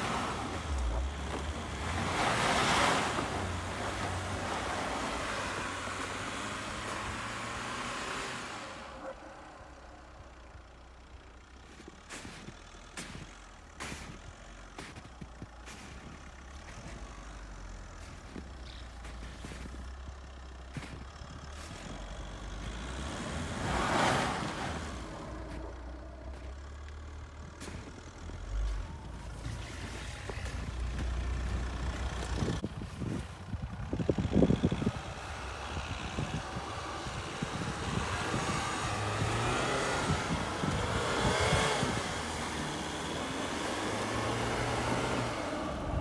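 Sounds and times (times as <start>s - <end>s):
pickup engine running low: 0.0s - 46.0s.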